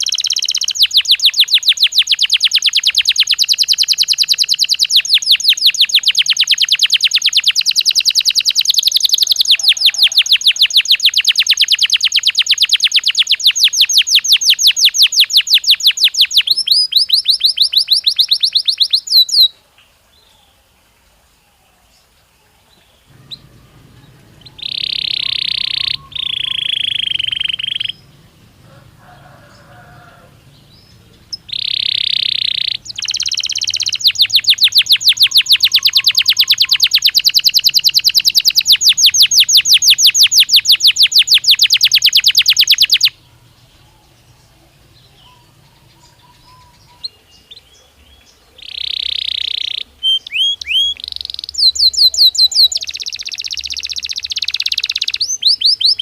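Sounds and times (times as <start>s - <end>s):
canary singing trills and whistles: 0.0s - 19.6s, 23.0s - 29.6s, 30.4s - 56.0s.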